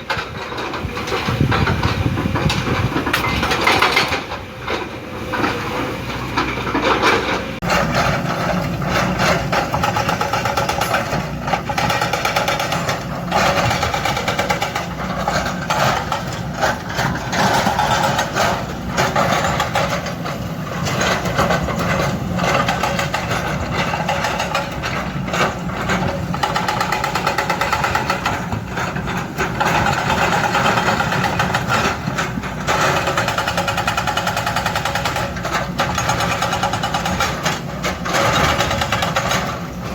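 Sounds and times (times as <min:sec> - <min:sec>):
diesel engine running: 0:00.0 - 0:39.9
hydraulic breaker hammering rock: 0:00.0 - 0:39.9.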